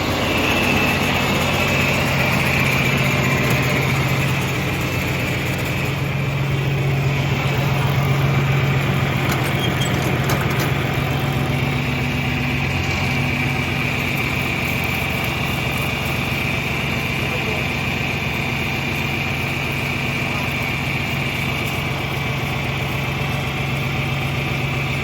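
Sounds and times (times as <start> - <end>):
tractor engine running steadily: 0.0 - 25.0.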